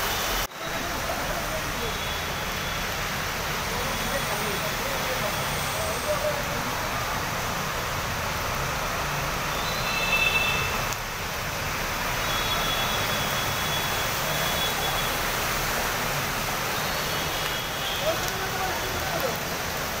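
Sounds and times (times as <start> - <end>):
heavy downpour: 0.0 - 20.0
water running over street: 0.0 - 20.0.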